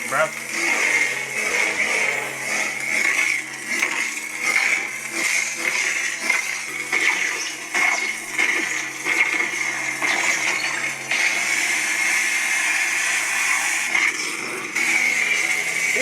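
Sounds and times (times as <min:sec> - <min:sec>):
lightsaber hum and swing: 0:00.3 - 0:16.0.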